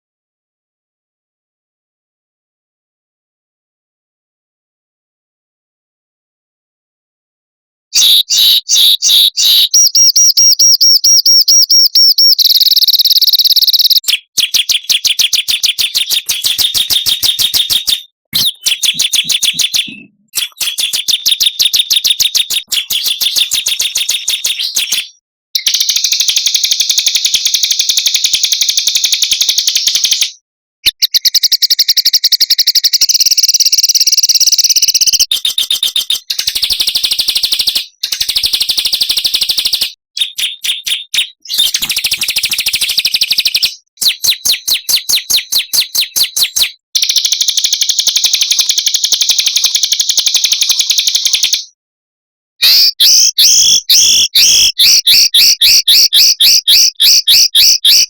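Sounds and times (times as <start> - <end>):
songbirds singing fast trills: 8.0 - 51.8, 52.6 - 58.0.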